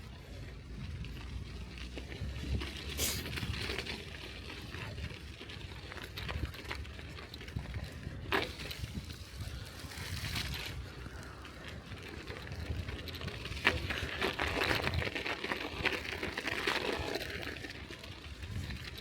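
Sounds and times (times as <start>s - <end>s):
bicycle tyres rolling on snow: 0.0s - 19.0s.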